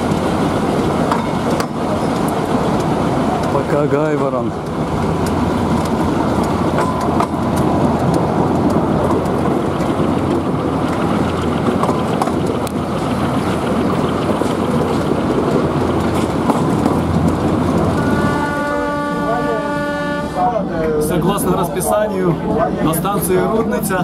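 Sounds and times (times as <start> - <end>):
wheels clicking on rail joints: 0.0 - 20.1
locomotive engine drone: 0.0 - 24.0
train wheel noise: 0.0 - 24.0.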